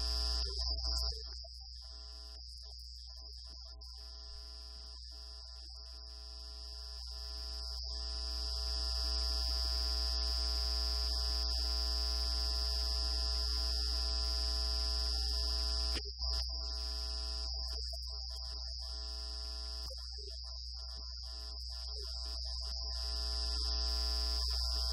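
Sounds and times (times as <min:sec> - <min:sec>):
electrical hum and buzz: 0:00.0 - 0:24.9.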